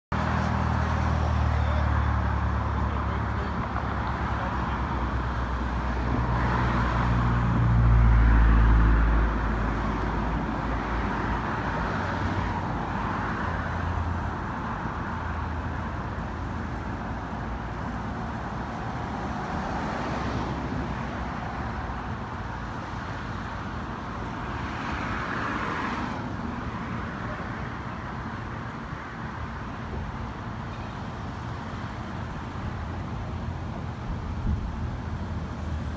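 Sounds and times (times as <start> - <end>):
steady traffic hum: 0.1 - 35.9.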